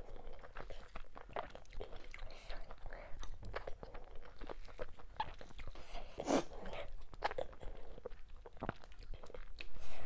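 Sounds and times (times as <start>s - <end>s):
person chewing: 0.0s - 10.0s.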